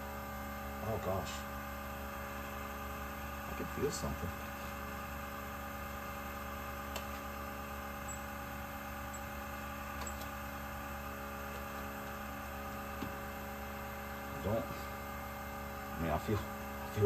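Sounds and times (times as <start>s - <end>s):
fuel pump humming: 0.0s - 17.0s.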